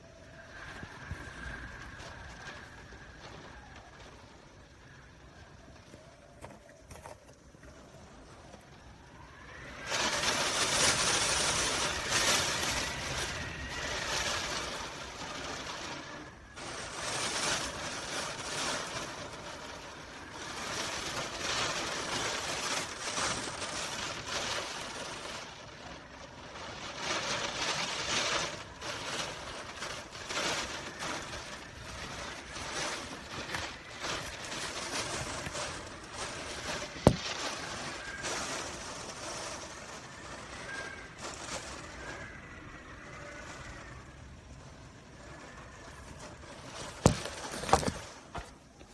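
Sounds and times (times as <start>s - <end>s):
hurricane wind gusting: 0.0s - 48.9s.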